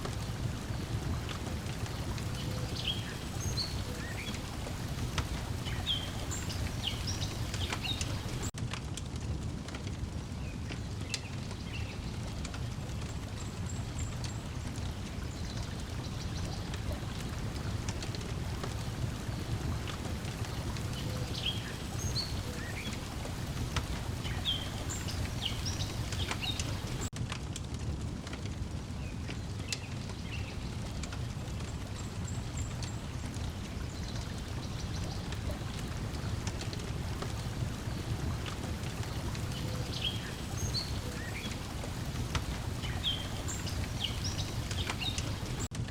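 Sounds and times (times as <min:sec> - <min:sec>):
breeze: 0:00.0 - 0:08.5, 0:11.6 - 0:27.1, 0:29.2 - 0:45.8
water lapping: 0:00.0 - 0:08.5, 0:13.5 - 0:27.1, 0:30.9 - 0:45.7
wood fire crackling: 0:00.0 - 0:45.9.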